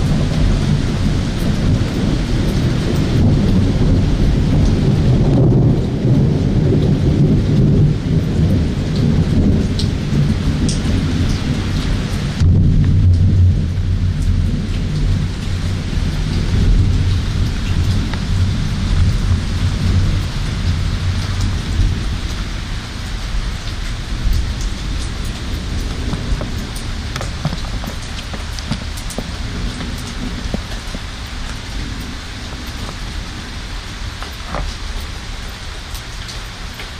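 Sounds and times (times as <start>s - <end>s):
thunder rumbling: 0.0s - 36.4s
heavy rain: 0.0s - 36.9s
raindrops ticking: 0.0s - 36.9s.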